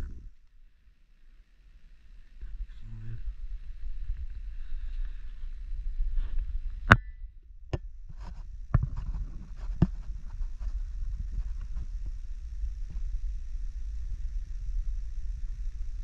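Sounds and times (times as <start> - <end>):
low rumble: 1.9 - 16.0.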